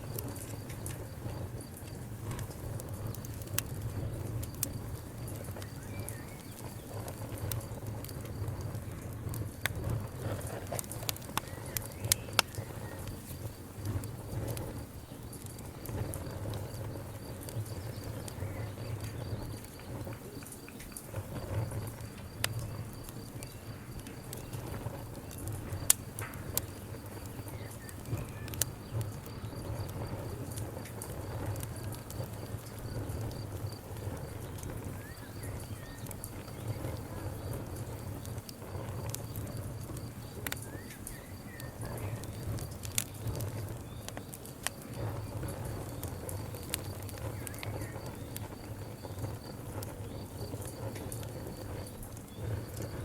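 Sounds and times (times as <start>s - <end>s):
campfire crackling and popping: 0.0s - 53.0s
low fire rumble: 0.0s - 53.0s.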